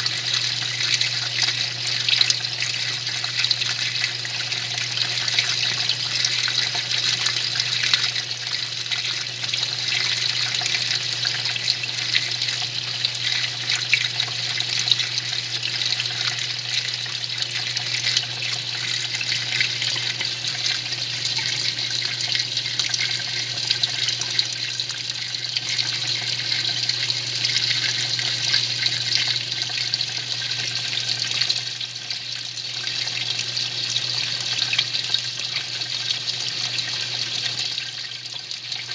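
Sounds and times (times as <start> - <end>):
washing machine water churning: 0.0 - 38.9.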